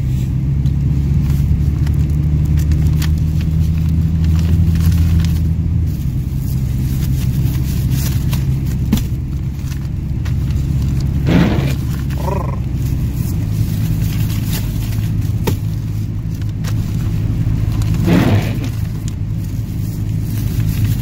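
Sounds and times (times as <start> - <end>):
car engine and road hum: 0.0 - 21.0.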